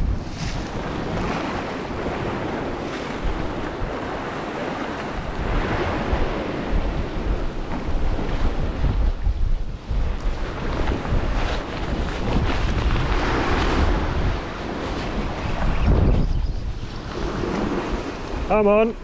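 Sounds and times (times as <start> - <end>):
surf washing against rocks: 0.0 - 19.0
wind buffeting microphone: 0.0 - 19.0.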